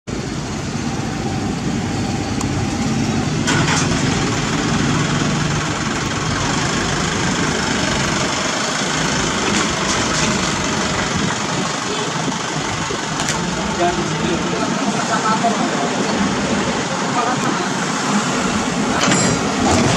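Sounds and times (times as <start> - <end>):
diesel engine idling: 0.1 - 19.9.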